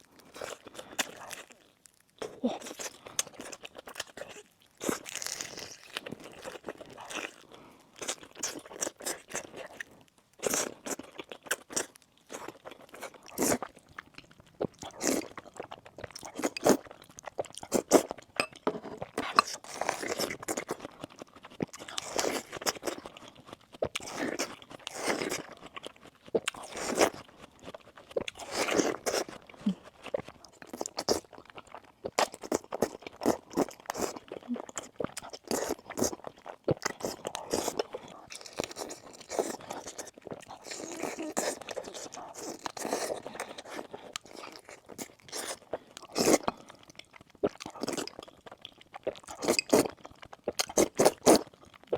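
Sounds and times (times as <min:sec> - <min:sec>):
crunchy bites and chewing: 0:00.0 - 0:51.9.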